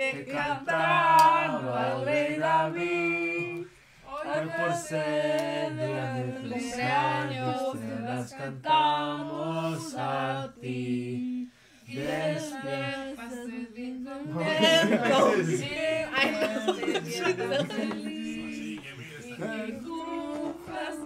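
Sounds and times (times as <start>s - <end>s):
group singing without accompaniment: 0.0s - 21.0s.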